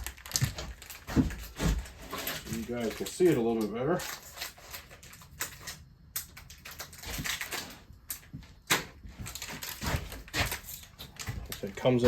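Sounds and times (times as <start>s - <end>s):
cardboard packaging rustling: 0.0s - 5.8s, 6.4s - 12.0s.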